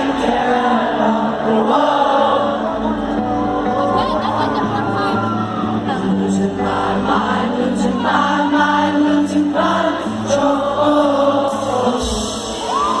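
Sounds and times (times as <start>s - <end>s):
person singing: 0.0s - 13.0s
rock band playing live: 0.0s - 13.0s.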